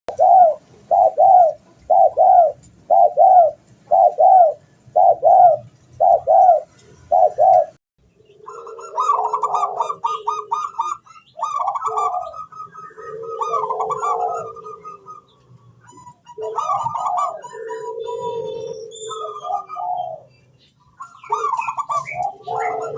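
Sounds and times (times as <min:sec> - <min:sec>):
dove cooing: 0:00.1 - 0:20.4, 0:21.0 - 0:22.9.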